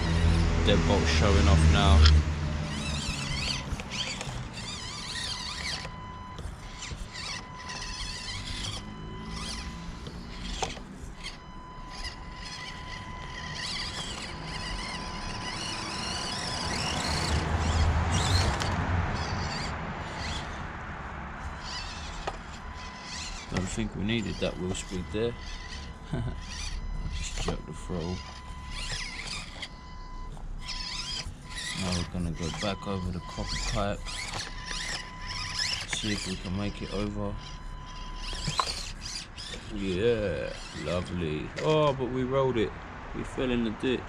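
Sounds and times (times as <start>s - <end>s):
small electric motor whining: 0.0s - 42.6s.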